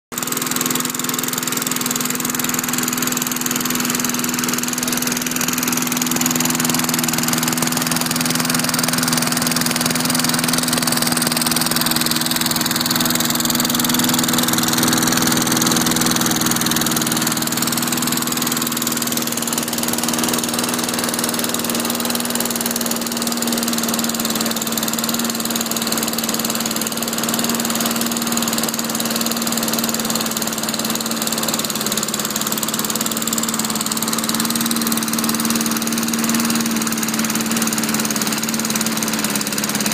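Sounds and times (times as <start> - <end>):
lawn mower engine running: 0.1 - 39.9.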